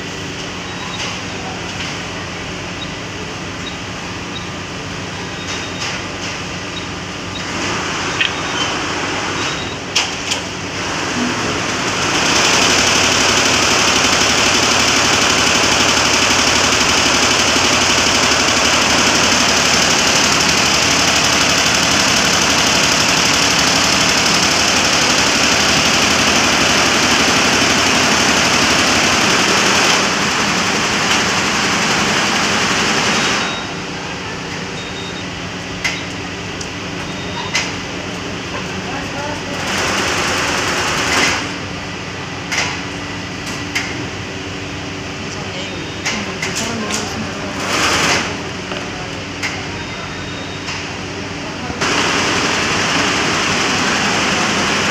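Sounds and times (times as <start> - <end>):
embroidery machine running: 0.0 - 54.9.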